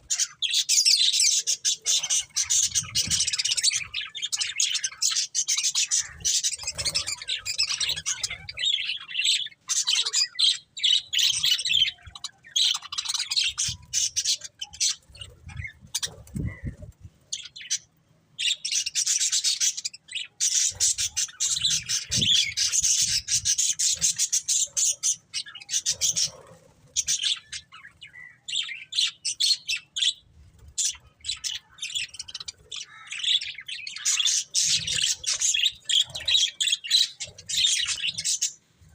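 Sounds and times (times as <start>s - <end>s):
budgerigars chirping: 0.0s - 16.7s, 17.4s - 30.2s, 30.8s - 38.6s.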